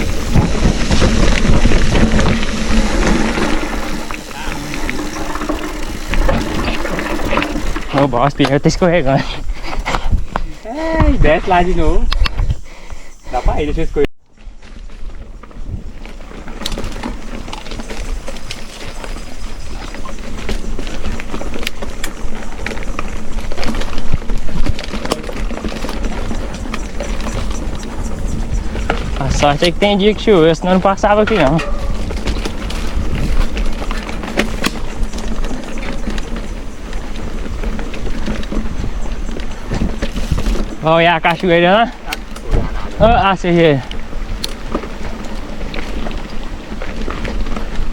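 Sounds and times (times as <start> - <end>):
bicycle rattles and knocks: 0.0 - 12.5, 14.3 - 47.9
bicycle tyres rumbling on dirt: 0.0 - 47.9.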